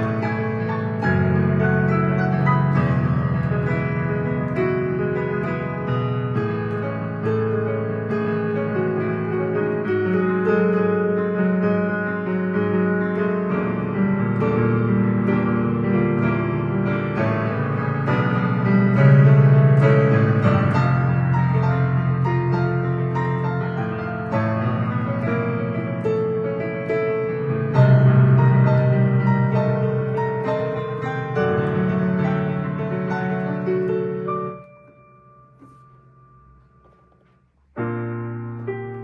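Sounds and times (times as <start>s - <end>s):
piano piece: 0.0s - 39.0s.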